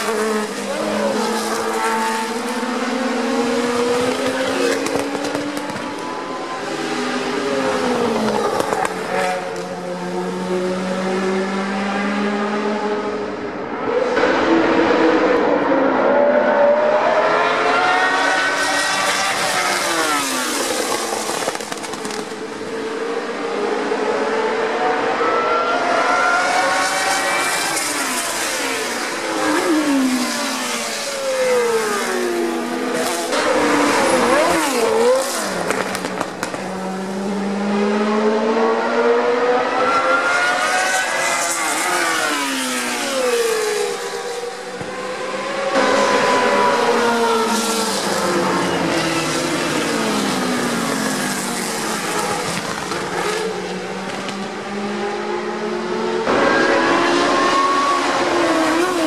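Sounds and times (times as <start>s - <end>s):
racing cars passing: 0.0s - 59.0s.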